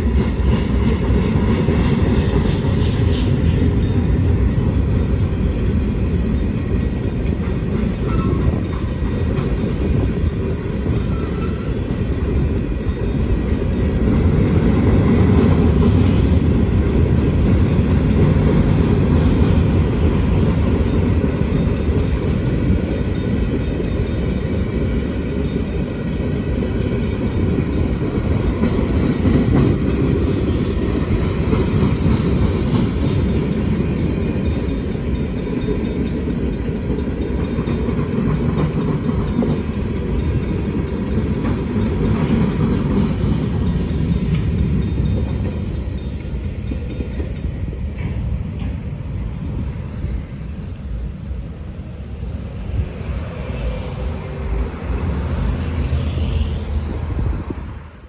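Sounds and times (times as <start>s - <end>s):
freight train wheels rumbling: 0.0s - 58.0s
road traffic: 0.0s - 58.0s.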